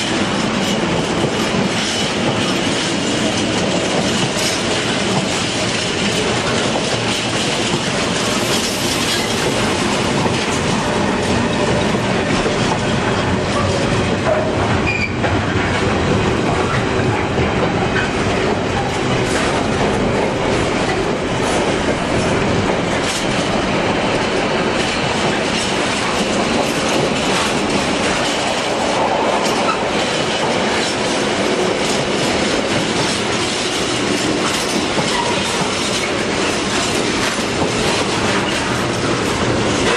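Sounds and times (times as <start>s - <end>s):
train wheels clattering on track: 0.0s - 39.9s.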